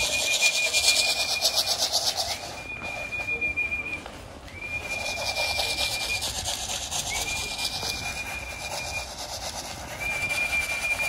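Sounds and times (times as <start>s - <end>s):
rapid rasping rattle: 0.0s - 2.6s, 4.7s - 11.0s
whistle calls: 0.0s - 11.0s.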